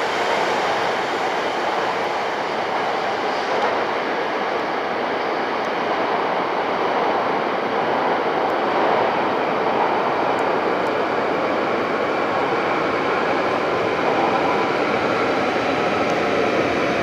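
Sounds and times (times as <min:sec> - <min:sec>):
train rushing in station: 0:00.0 - 0:17.0.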